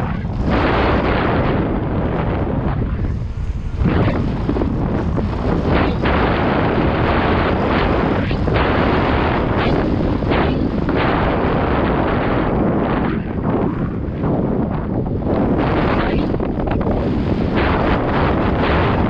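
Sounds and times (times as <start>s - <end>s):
mountain bike rumbling on dirt trail: 0.0s - 19.0s
wind buffeting microphone: 0.0s - 19.0s.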